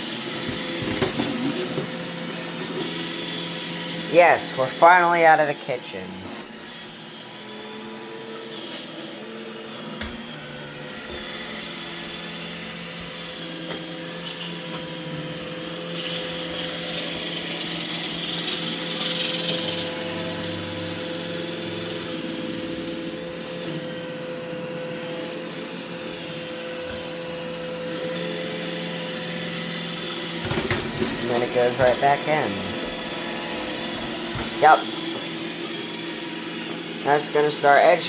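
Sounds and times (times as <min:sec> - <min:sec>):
robot vacuum running: 0:00.0 - 0:38.0.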